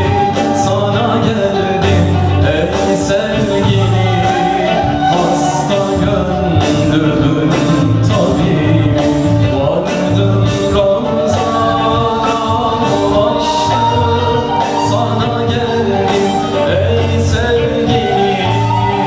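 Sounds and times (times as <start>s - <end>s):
band with keyboards and beat: 0.0s - 19.0s
man singing into a microphone: 0.0s - 19.0s.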